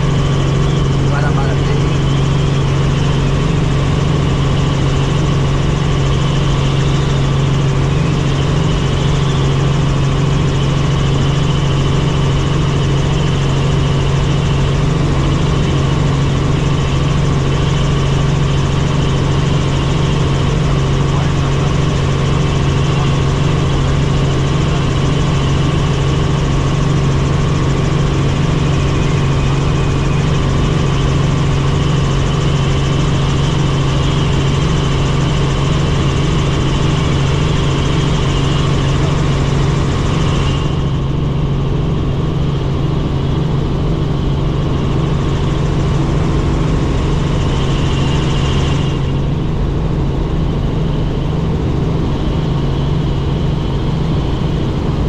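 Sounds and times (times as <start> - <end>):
helicopter turbine and rotors: 0.0 - 55.0.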